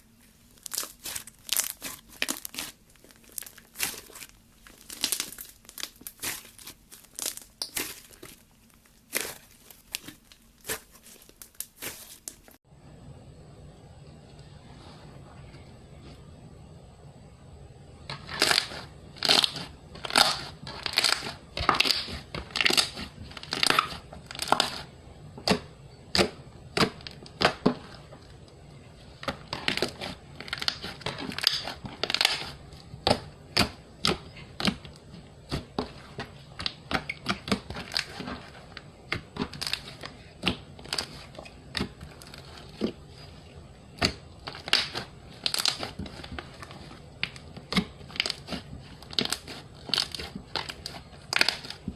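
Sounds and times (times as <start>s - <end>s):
slime crackling squishes: 0.0s - 12.6s, 18.1s - 51.9s.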